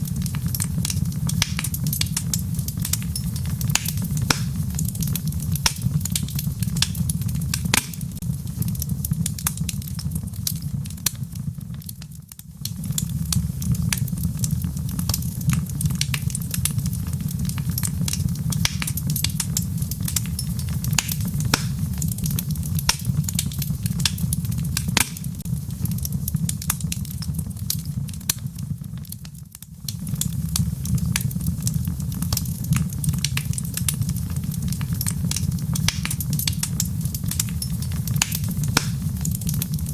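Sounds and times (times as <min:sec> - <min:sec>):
fire flames rumbling: 0:00.0 - 0:39.9
wood crackling and popping: 0:00.0 - 0:39.9.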